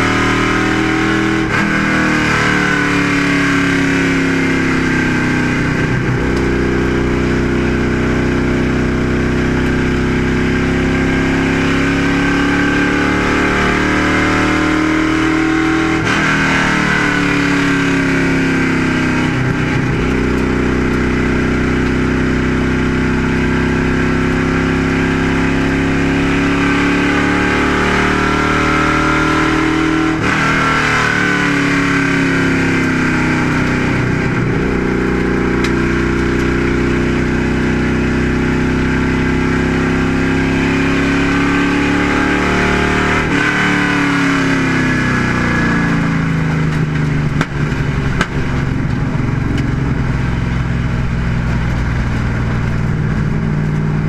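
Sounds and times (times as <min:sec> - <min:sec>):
race car engine at full throttle: 0:00.0 - 0:54.0
road and wind noise: 0:00.0 - 0:54.0.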